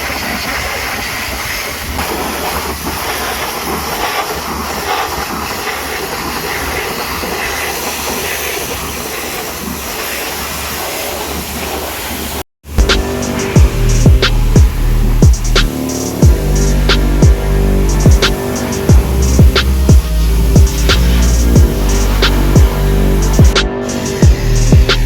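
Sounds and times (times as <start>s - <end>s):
pressure washer spraying water: 0.0s - 25.0s.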